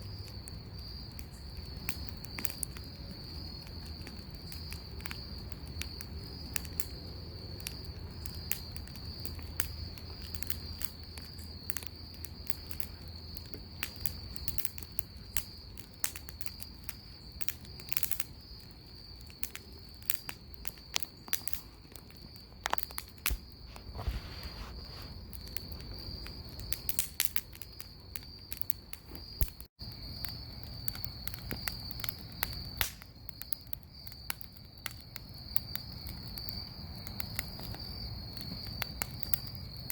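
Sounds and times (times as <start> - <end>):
bonfire crackling and popping: 0.0 - 39.9
crickets trilling: 0.0 - 39.9.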